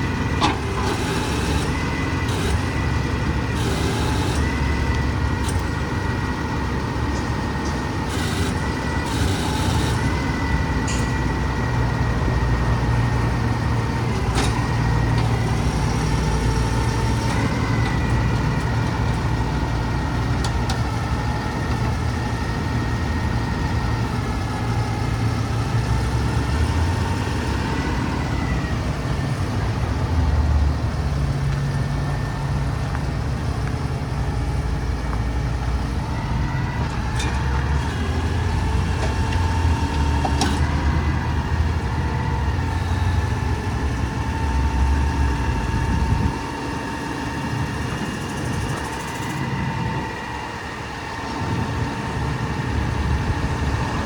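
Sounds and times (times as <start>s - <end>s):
constant whine: 0.0s - 54.0s
truck diesel engine running: 0.0s - 54.0s.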